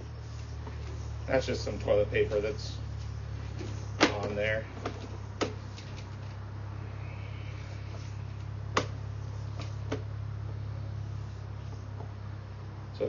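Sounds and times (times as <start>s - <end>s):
inspection camera rig humming: 0.0s - 13.0s.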